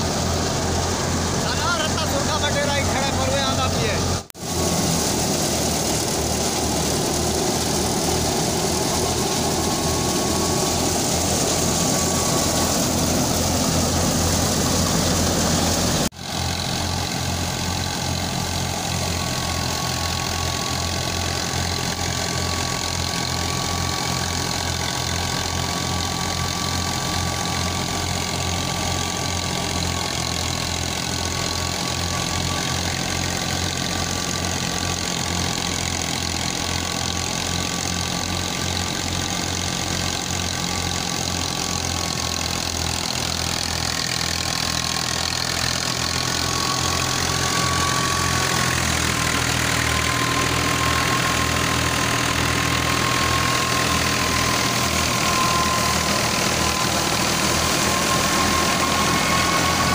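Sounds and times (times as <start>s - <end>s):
thresher machinery whirring: 0.0s - 59.9s
tractor engine running: 0.0s - 59.9s.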